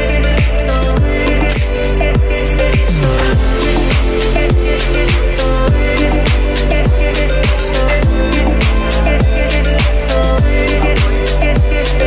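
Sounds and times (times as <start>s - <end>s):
electronic beat music: 0.0s - 12.0s.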